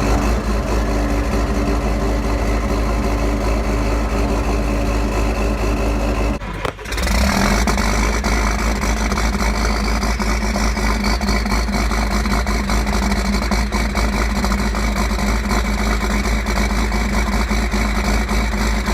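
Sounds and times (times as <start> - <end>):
tractor engines running loud: 0.0 - 18.9.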